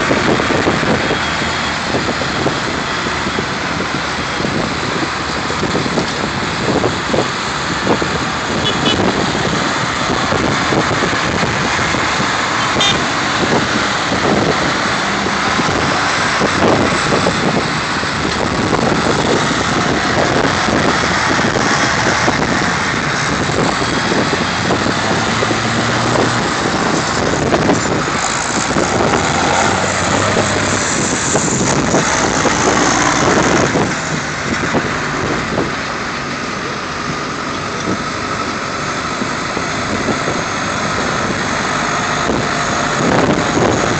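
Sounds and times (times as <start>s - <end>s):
tractor engines running: 0.0s - 43.9s.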